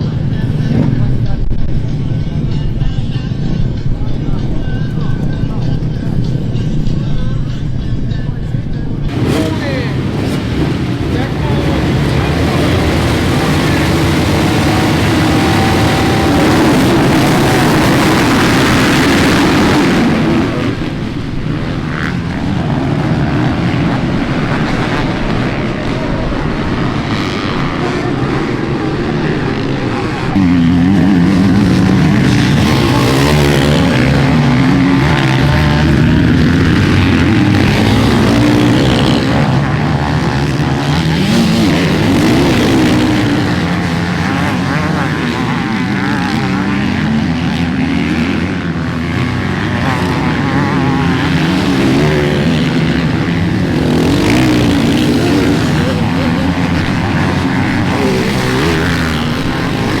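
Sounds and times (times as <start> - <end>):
dirt bike engines revving: 0.0 - 60.0.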